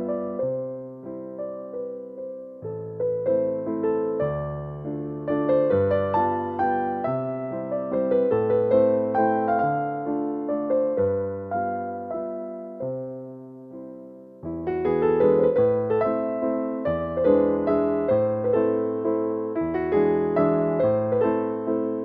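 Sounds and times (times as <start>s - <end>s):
keyboard melody: 0.0s - 22.0s.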